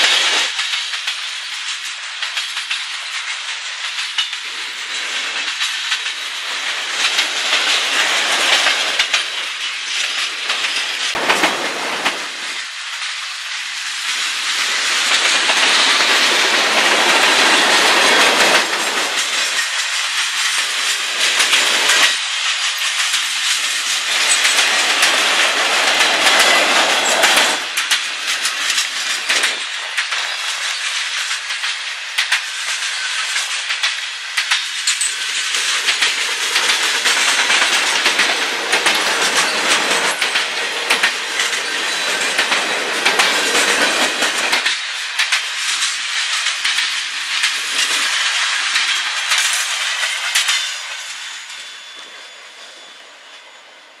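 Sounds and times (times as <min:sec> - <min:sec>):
wheels clicking over rail joints: 0:00.0 - 0:52.2
steel wheels hissing on rails: 0:00.0 - 0:54.0.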